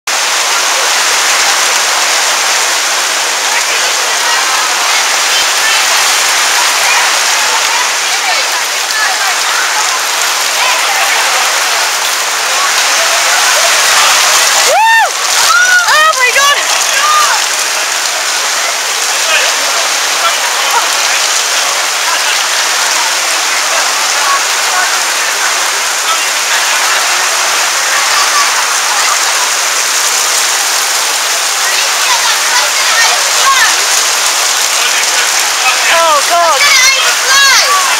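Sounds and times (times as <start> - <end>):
heavy rain on canopy: 0.0 - 37.9
faint voices: 0.1 - 37.9.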